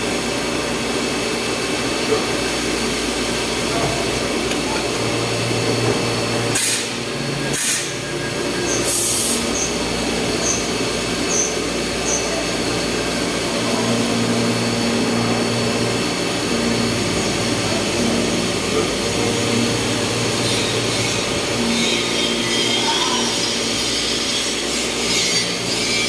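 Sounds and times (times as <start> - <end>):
milling machine humming: 0.0 - 26.0.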